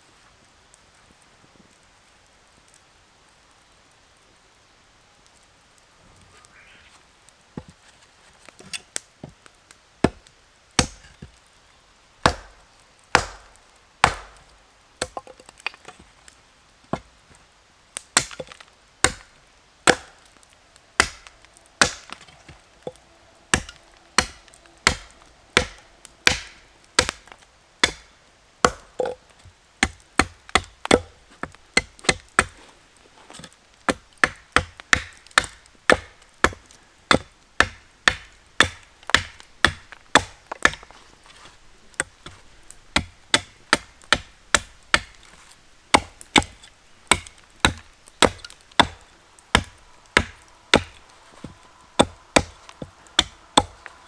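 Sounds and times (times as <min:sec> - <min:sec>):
firewood being chopped: 0:07.6 - 0:11.6, 0:12.2 - 0:17.4, 0:18.0 - 0:54.0.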